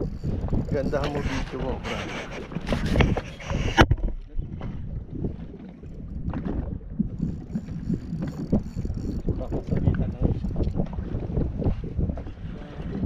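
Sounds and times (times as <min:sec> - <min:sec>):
water knocking against hull: 0:00.0 - 0:13.0
wind buffeting microphone: 0:00.0 - 0:13.0.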